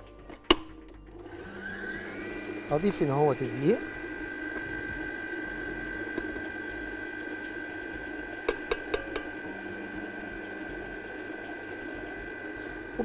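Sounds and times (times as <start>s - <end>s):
stand mixer motor whine: 0.5s - 13.0s.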